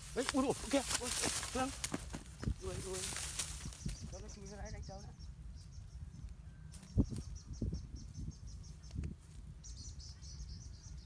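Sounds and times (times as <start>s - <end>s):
insects chirping: 0.0s - 9.0s.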